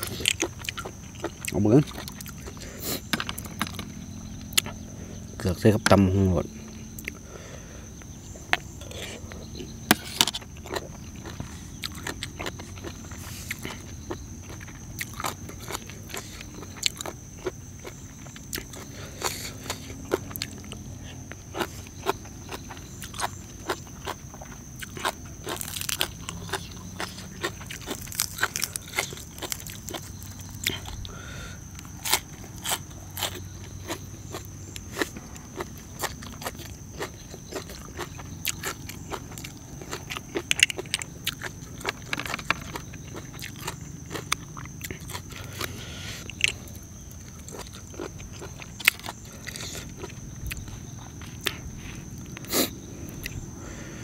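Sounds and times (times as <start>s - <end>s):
person crunching and chewing: 0.0s - 4.8s, 6.8s - 54.0s.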